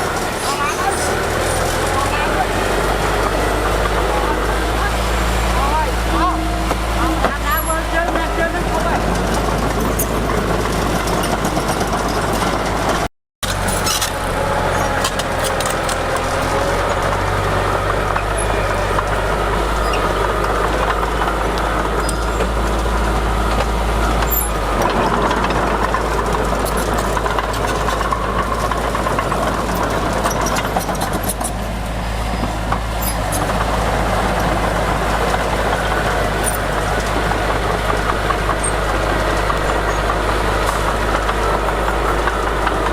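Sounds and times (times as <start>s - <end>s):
diesel machinery engine drone: 0.0s - 42.9s.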